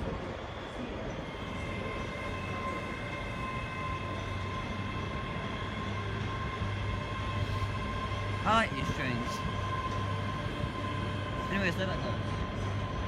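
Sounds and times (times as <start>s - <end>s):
train high whine: 0.0s - 13.0s
train low rumble: 0.0s - 13.0s.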